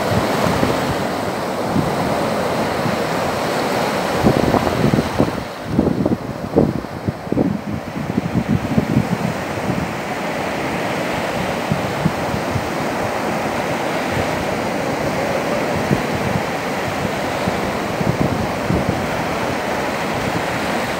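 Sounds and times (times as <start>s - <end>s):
small waves breaking on sand: 0.0s - 20.9s.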